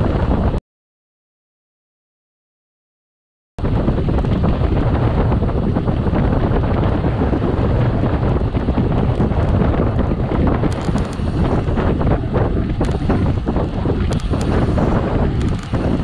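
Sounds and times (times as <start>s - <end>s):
wind buffeting microphone: 0.0s - 0.6s, 3.6s - 16.0s.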